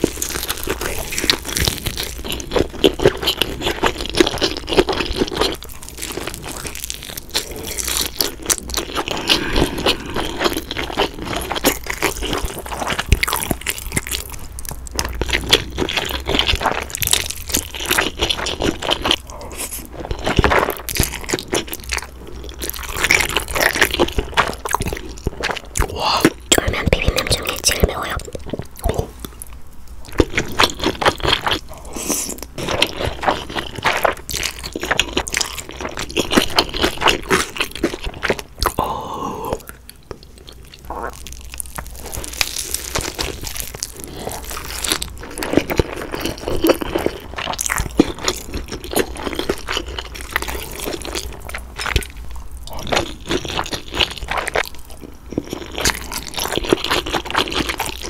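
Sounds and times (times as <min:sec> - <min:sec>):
close-miked chewing: 0:00.0 - 0:58.0.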